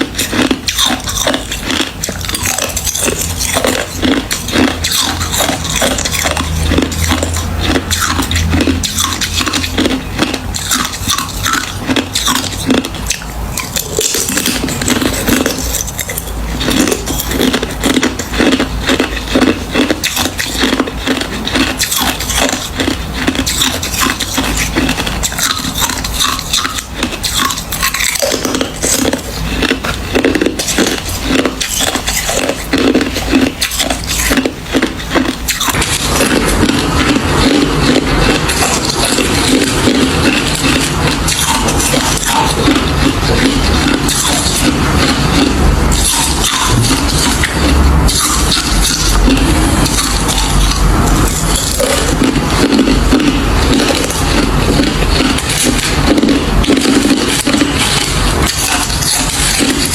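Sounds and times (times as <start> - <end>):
ice being crunched and chewed: 0.0 - 59.9.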